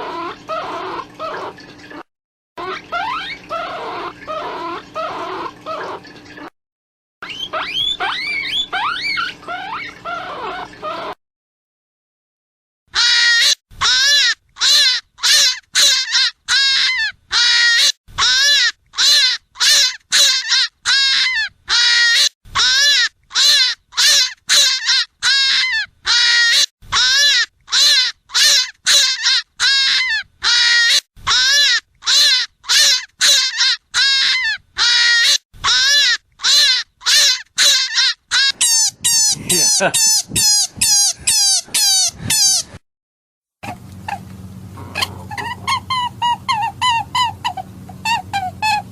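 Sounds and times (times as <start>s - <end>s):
squealing rabbit call: 0.0s - 2.0s, 2.6s - 6.5s, 7.2s - 11.2s, 13.0s - 42.8s, 43.6s - 48.9s.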